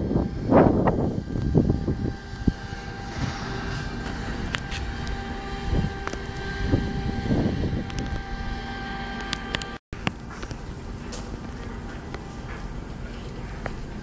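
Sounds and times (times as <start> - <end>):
heavy engines rumbling: 0.0 - 14.0.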